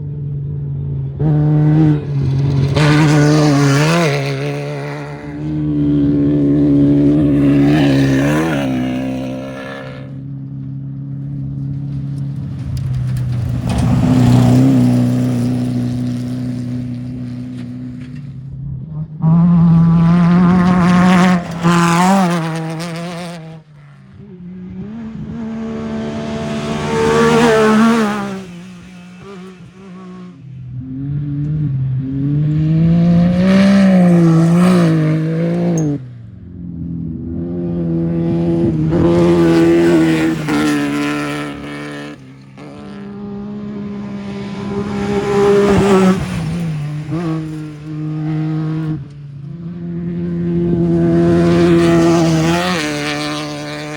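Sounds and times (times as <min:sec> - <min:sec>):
race vehicles passing at speed: 0:00.0 - 0:53.9.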